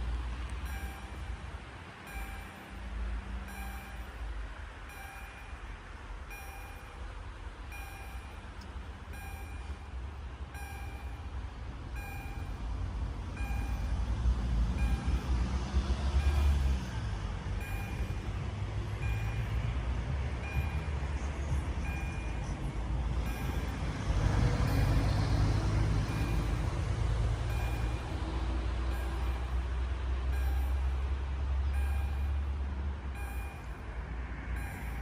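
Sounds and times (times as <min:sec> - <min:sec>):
level crossing warning chime: 0:00.6 - 0:35.0.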